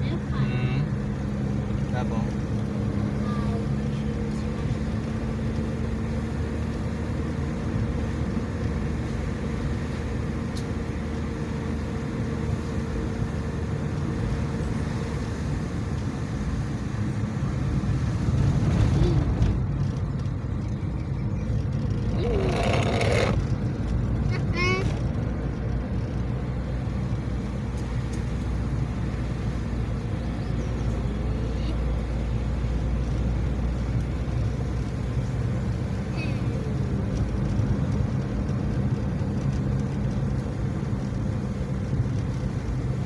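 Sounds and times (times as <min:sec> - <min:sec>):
car engine and tyre drone: 0:00.0 - 0:43.0.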